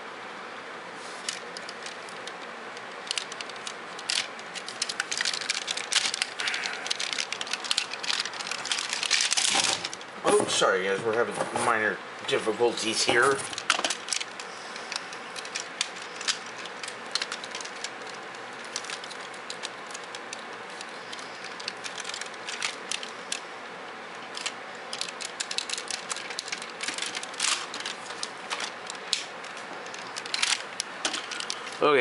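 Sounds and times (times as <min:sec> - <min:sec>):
plastic toy parts clicking: 0:01.2 - 0:10.0, 0:13.5 - 0:23.4, 0:24.3 - 0:31.8.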